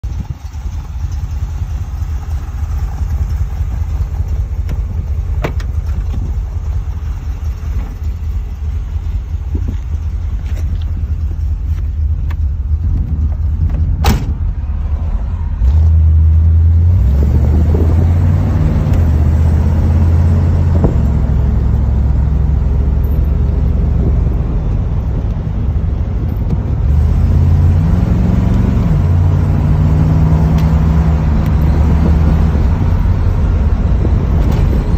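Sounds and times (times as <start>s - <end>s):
car engine rumble: 0.0s - 34.9s.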